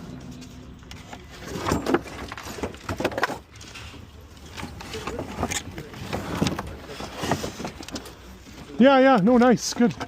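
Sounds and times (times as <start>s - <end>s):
junk clattering: 0.0s - 8.2s.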